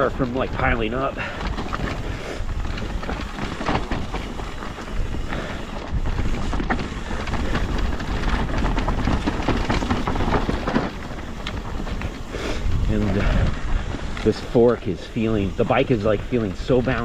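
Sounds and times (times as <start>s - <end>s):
knocks over rocks: 0.0s - 13.8s
bike rattling: 0.0s - 17.0s
bike tyres rolling on dirt: 0.0s - 17.0s
wind buffeting microphone: 0.0s - 17.0s.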